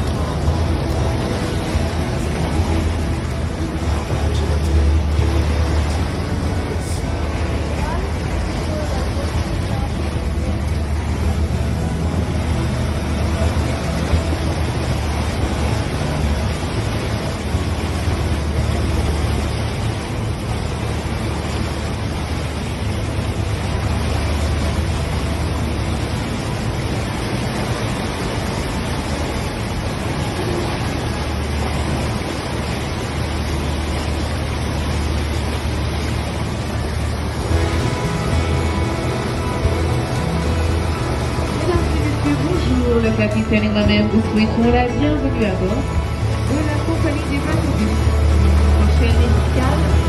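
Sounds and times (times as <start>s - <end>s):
boat engine drone: 0.0s - 50.0s
churning propeller wash: 0.0s - 50.0s.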